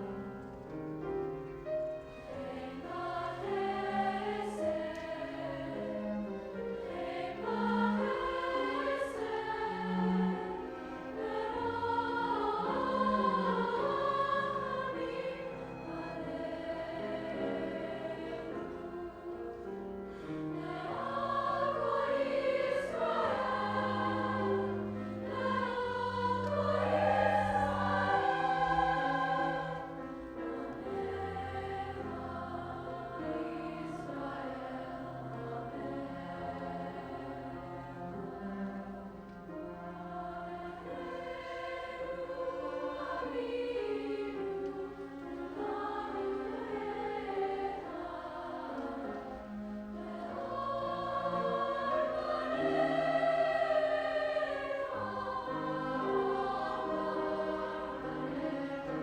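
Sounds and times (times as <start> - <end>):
choir singing in parts: 1.6 - 59.0.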